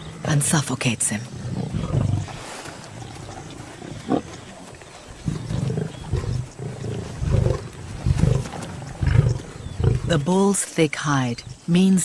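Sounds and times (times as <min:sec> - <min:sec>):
lions growling: 0:00.0 - 0:10.3.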